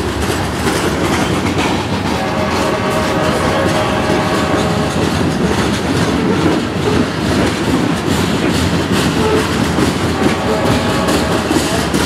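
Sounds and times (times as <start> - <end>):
freight cars rumbling: 0.0 - 12.0
wheels clattering over joints: 0.0 - 12.0.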